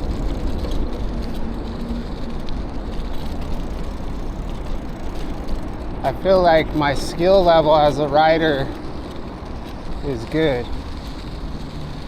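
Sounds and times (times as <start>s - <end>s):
bicycle tyre noise: 0.0s - 12.0s.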